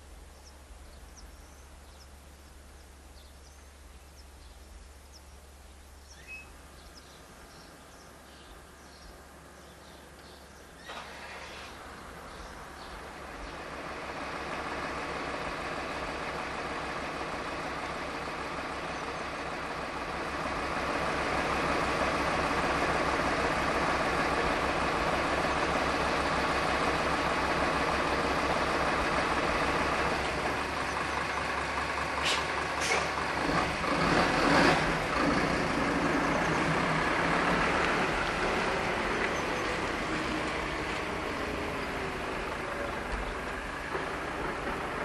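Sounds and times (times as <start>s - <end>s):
diesel railcar engine running: 0.0s - 45.0s.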